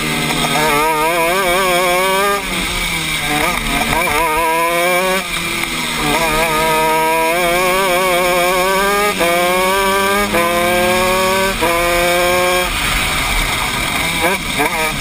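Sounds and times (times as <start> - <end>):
kart engine accelerating: 0.0 - 15.0.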